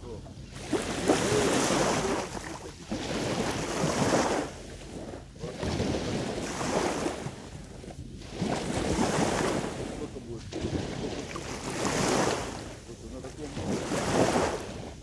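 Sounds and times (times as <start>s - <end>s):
sea waves washing onto shore: 0.0s - 15.0s
wind buffeting microphone: 0.0s - 15.0s.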